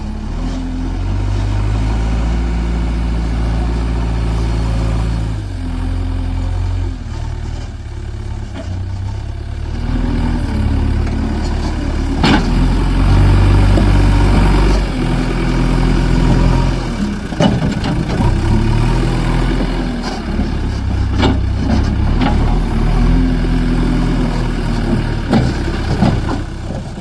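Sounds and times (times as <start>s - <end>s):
diesel engine running under load: 0.0s - 27.0s.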